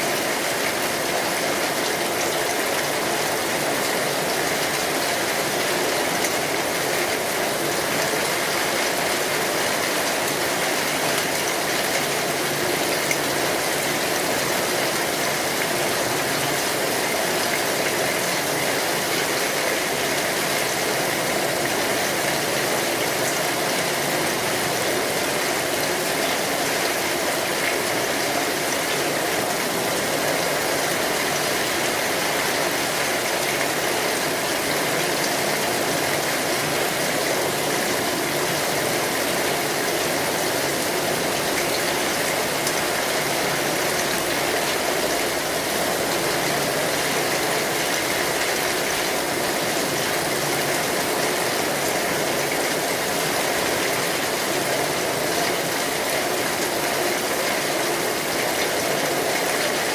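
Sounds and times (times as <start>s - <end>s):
rain falling on an umbrella: 0.0s - 59.9s.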